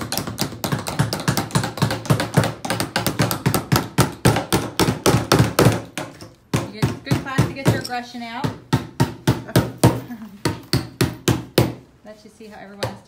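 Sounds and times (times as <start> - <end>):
small hammers tapping nails: 0.0 - 11.8.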